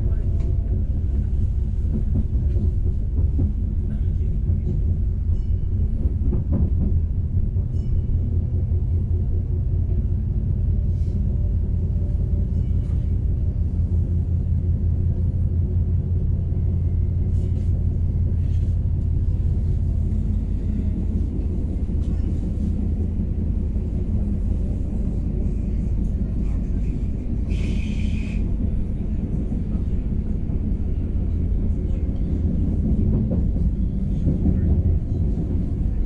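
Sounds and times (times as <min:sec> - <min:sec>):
train rumble inside carriage: 0:00.0 - 0:36.0.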